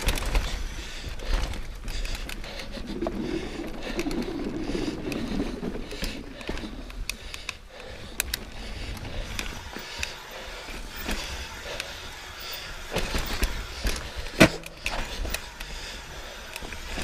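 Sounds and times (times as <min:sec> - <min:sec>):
bike clicks and rattles: 0:00.0 - 0:17.0.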